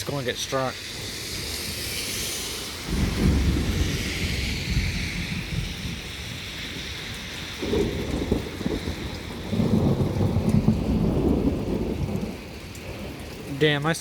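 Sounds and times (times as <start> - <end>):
rain hissing: 0.0 - 14.0
thunder rumbling: 0.0 - 14.0.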